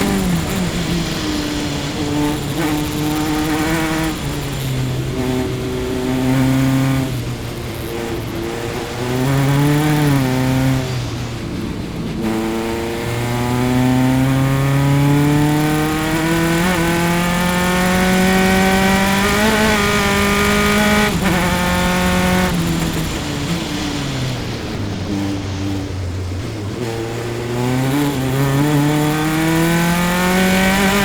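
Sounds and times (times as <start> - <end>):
race car engine at speed: 0.0 - 31.0.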